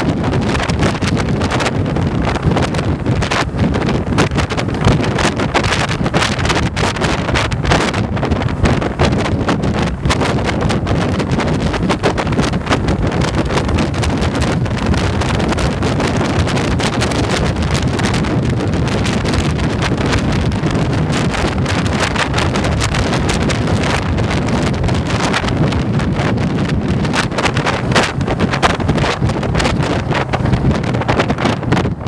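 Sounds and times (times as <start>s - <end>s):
road noise: 0.0s - 32.0s
wind rushing over microphone: 0.0s - 32.0s.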